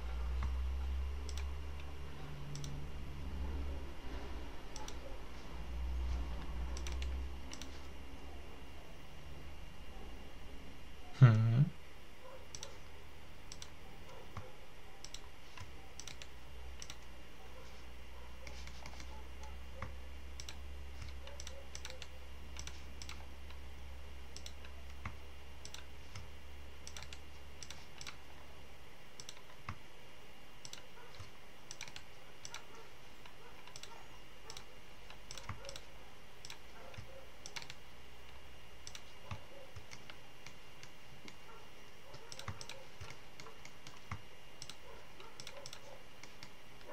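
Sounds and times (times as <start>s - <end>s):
computer mouse and keyboard clicks: 0.0s - 2.9s, 4.1s - 8.0s, 12.5s - 12.9s, 13.5s - 23.7s, 24.3s - 28.5s, 29.2s - 29.9s, 30.6s - 41.5s, 42.1s - 46.9s
steady low hum: 0.0s - 46.9s.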